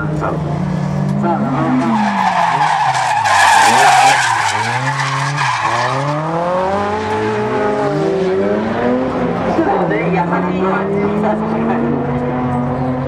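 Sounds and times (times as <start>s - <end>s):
car engine revving: 0.0s - 13.0s
tyres skidding: 0.0s - 13.0s.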